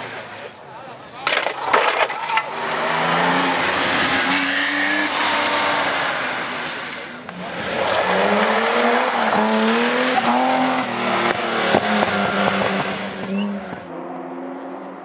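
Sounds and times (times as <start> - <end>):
rally car accelerating hard: 2.5 - 15.0
rally car engine pulling away: 2.5 - 15.0.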